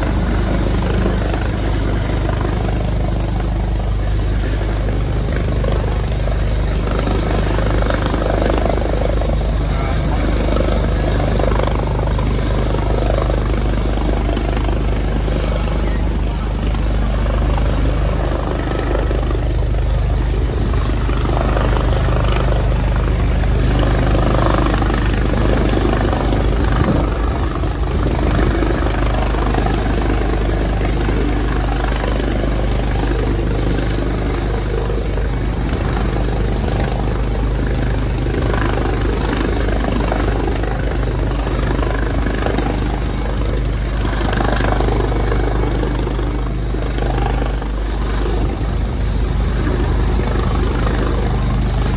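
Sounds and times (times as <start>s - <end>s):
helicopter hovering: 0.0s - 51.9s.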